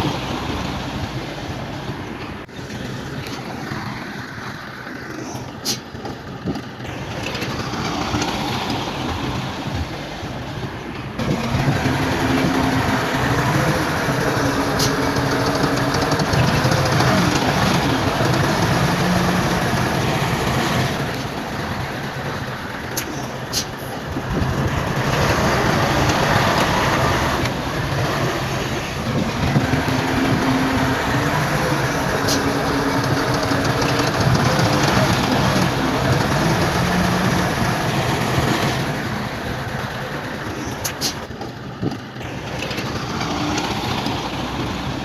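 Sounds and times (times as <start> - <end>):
bulldozer diesel engine under load: 0.0 - 45.0
steel tracks clattering: 0.0 - 45.0.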